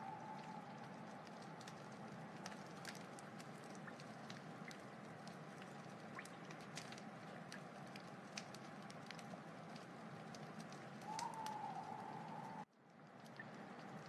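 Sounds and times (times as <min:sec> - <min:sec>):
whistling hiss from burning wood: 0:00.0 - 0:14.0
wood fire crackling and popping: 0:00.0 - 0:14.0.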